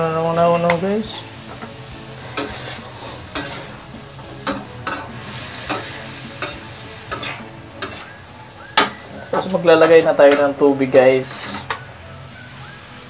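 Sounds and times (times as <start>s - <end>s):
food sizzling in a pan: 0.0s - 13.0s
spatula scraping a pan: 1.1s - 11.9s.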